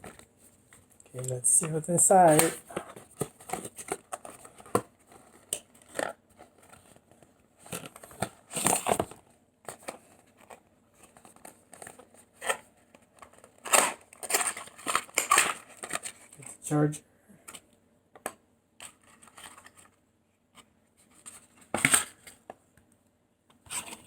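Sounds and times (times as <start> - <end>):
cardboard packaging rustling and tearing: 0.0 - 16.5, 18.8 - 19.9, 21.0 - 22.5, 23.6 - 24.0.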